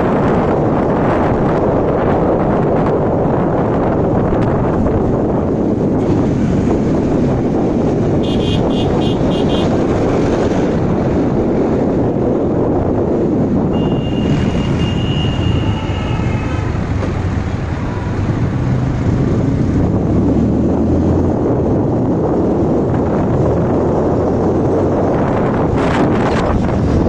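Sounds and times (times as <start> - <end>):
motorcycle engine and road noise: 0.0 - 27.0
wind buffeting microphone: 0.0 - 27.0.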